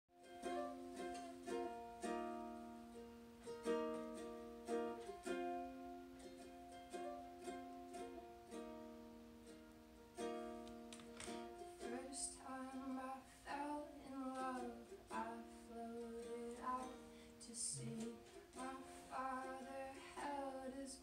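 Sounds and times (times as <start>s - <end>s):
ukulele strumming: 0.1s - 21.0s.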